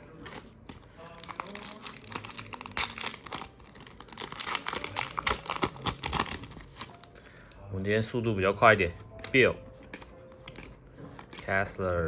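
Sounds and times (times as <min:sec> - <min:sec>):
cards clicking and rustling: 0:00.1 - 0:07.3, 0:09.0 - 0:11.6.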